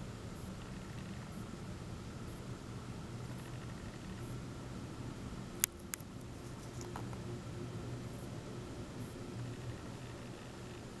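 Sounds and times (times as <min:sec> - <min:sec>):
muffled train rumble: 0:00.0 - 0:11.0.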